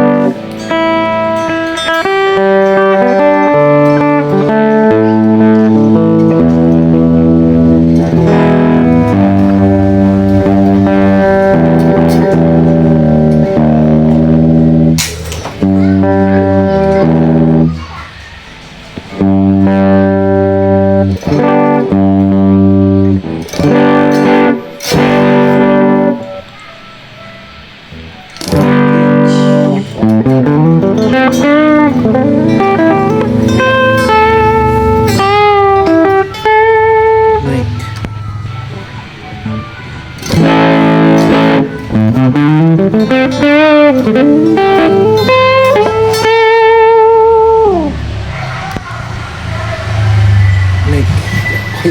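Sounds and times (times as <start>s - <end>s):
guitar chords and notes: 0.0s - 51.9s.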